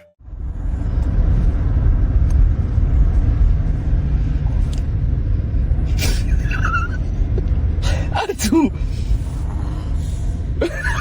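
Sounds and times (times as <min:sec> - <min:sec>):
low rumble: 0:00.2 - 0:11.0.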